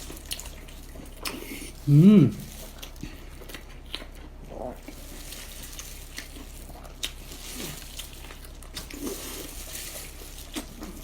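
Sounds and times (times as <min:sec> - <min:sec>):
chewing and biting seafood: 0:00.0 - 0:11.0.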